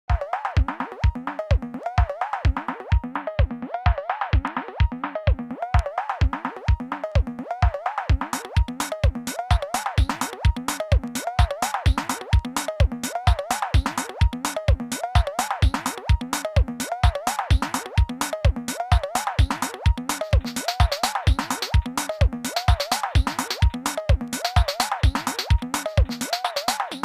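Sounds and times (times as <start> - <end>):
kick drum pulse: 0.1 - 26.2.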